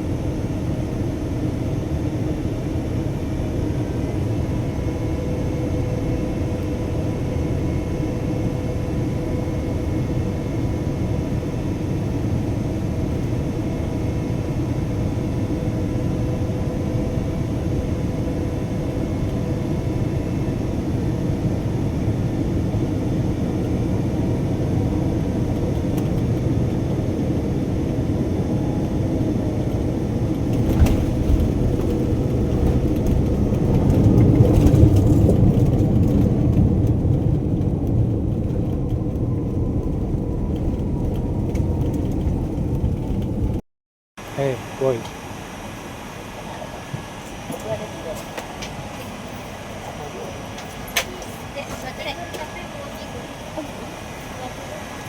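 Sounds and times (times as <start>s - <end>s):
airliner engine and airflow rumble: 0.0s - 43.6s, 44.2s - 55.0s.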